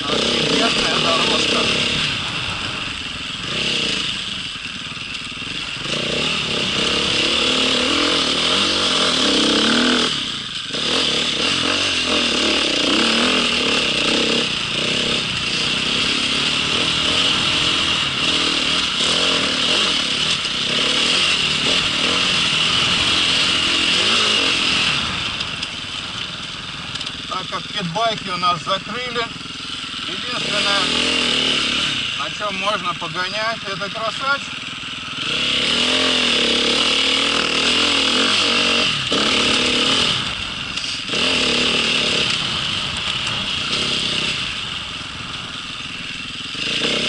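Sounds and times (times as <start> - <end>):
motocross bike engine running: 0.0 - 47.0.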